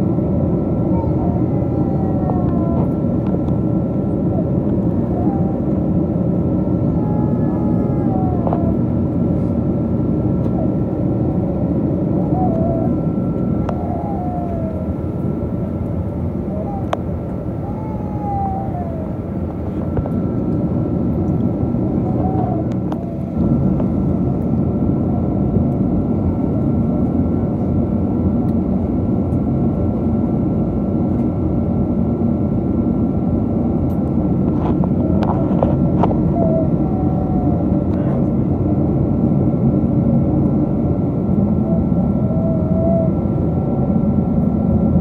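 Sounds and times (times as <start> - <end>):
jet cabin engine rush: 0.0 - 45.0.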